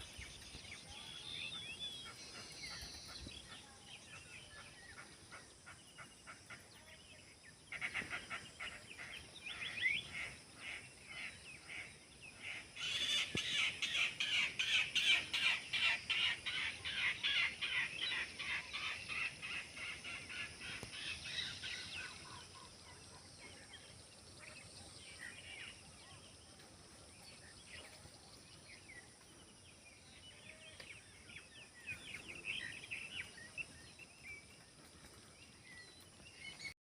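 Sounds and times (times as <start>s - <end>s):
many birds chirping: 0.0s - 36.8s.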